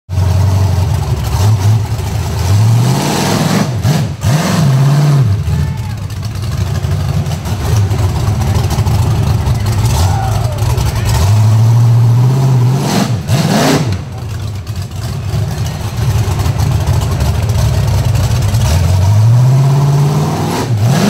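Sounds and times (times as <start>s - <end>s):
buggy engine revving: 0.1s - 21.0s.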